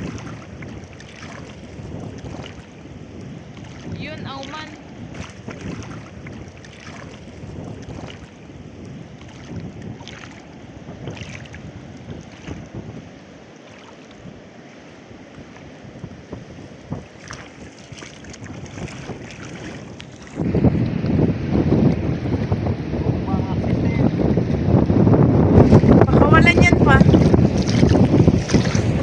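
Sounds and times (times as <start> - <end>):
sea water sloshing and splashing: 0.0 - 29.0
wind buffeting microphone: 0.0 - 29.0.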